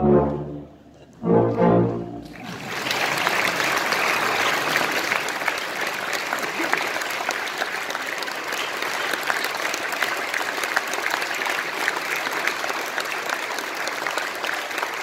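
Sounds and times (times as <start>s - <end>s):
audience applauding: 2.2s - 15.0s.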